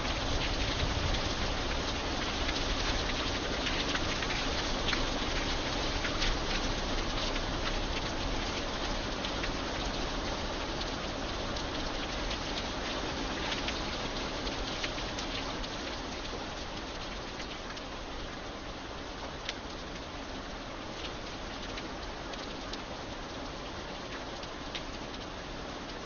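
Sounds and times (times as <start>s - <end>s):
rain hiss on iron bridge: 0.0s - 26.0s.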